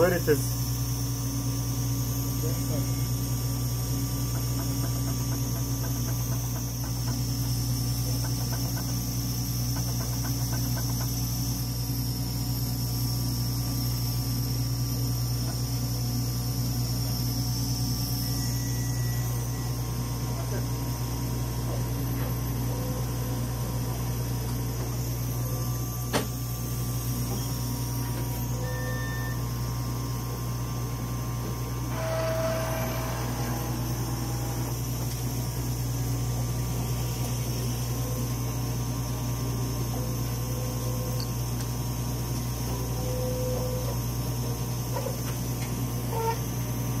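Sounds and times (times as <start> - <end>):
low electrical machine hum: 0.0 - 47.0.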